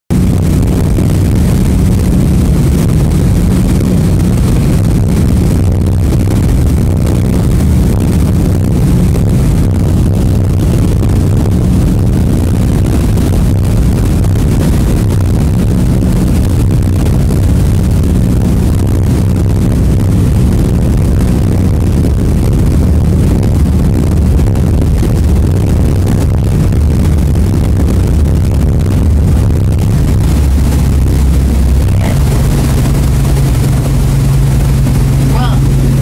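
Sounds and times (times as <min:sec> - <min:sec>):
ferry engines droning: 0:00.1 - 0:36.0
wind on microphone: 0:00.1 - 0:36.0.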